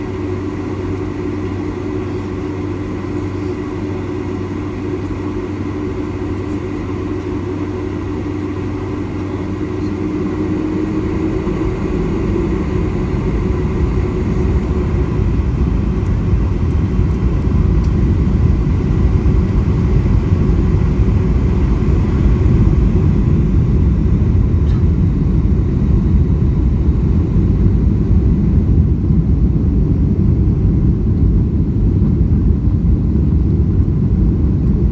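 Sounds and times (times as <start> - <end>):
jet engines in cabin: 0.0 - 34.9.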